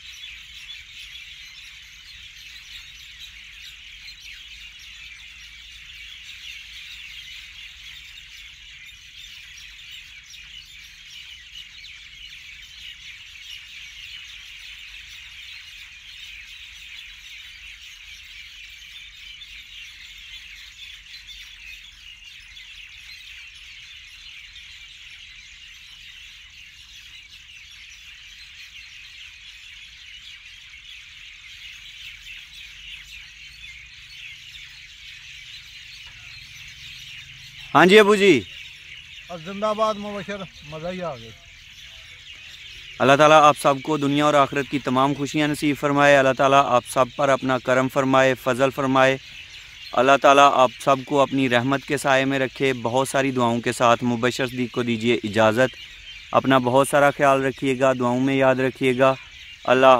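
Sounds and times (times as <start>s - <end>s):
birds chirping and twittering: 0.0s - 59.9s.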